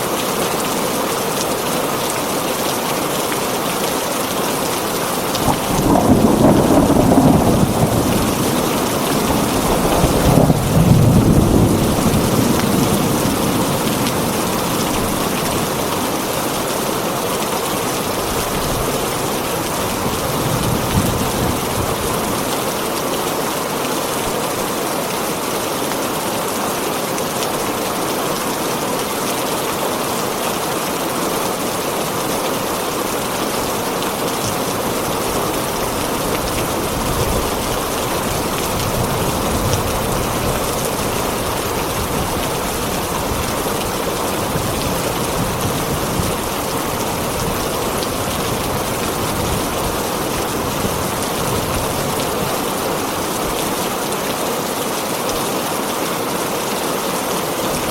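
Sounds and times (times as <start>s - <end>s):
heavy rain on a tin roof: 0.0s - 57.9s.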